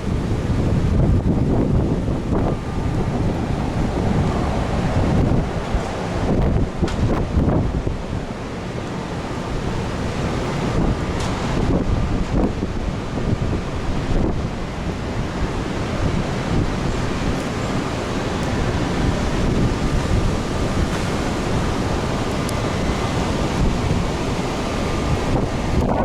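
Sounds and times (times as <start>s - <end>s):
strong wind blowing: 0.0s - 26.0s
wind buffeting microphone: 0.0s - 26.0s.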